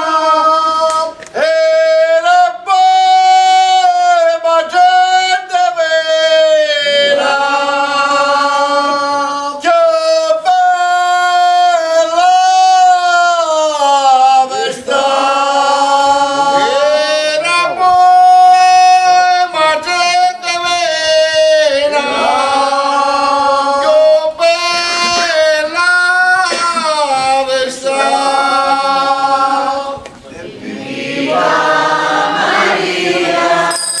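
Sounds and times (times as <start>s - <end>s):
men singing in unison: 3.5s - 10.0s, 10.8s - 34.0s.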